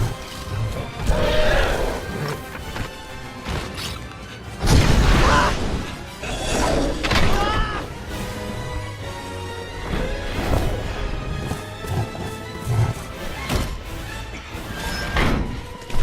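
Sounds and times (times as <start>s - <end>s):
dramatic orchestral music: 0.0s - 16.0s.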